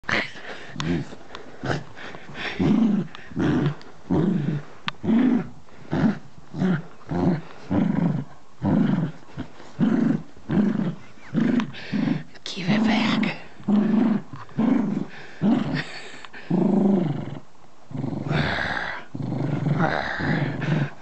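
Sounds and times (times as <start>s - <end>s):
dog growling in play: 0.0s - 21.0s.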